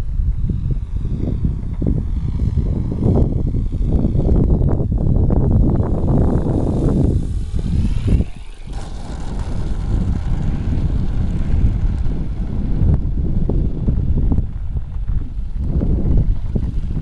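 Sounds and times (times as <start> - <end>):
model airplane motor whine: 0.0 - 17.0
wind buffeting microphone: 0.0 - 17.0.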